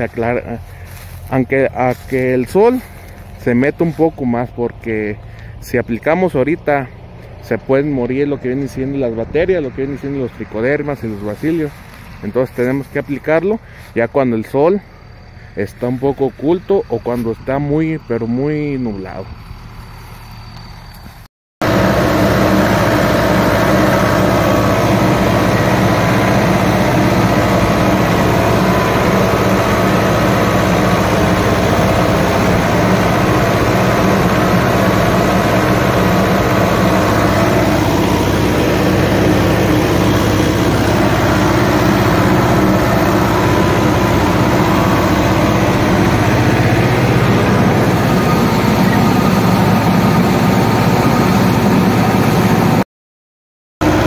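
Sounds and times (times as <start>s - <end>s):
tractor diesel engine running: 0.0s - 52.8s.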